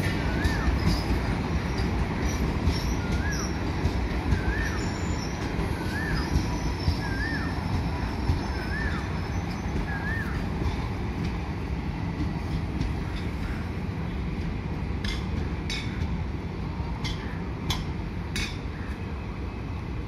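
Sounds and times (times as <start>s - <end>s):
sharp clacks of train wheels: 0.0s - 19.1s
train wheels rumbling on rail: 0.0s - 20.0s.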